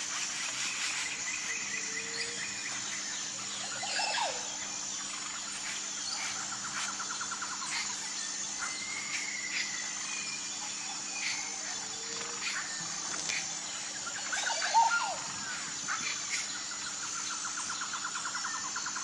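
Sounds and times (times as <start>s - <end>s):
high-pitched insect drone: 0.0s - 19.0s
birds calling: 0.4s - 19.0s.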